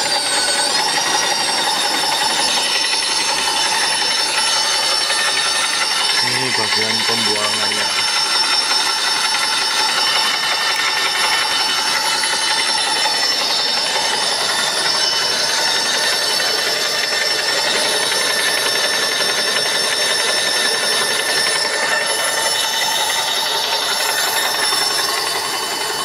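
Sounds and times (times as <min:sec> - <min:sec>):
electric paint sprayer running: 0:00.0 - 0:26.0.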